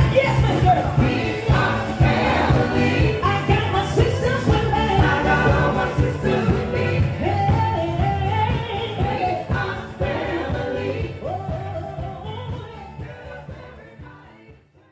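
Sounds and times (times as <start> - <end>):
live band playing: 0.0 - 13.7.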